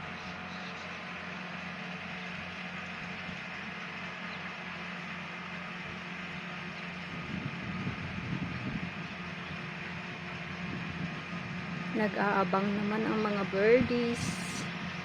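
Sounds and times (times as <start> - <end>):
harvesting machine engine running: 0.0 - 15.0.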